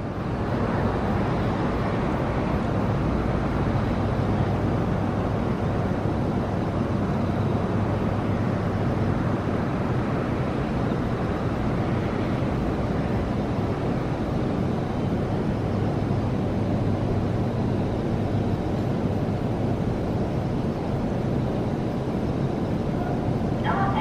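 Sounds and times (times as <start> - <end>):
train equipment humming: 0.0 - 24.0.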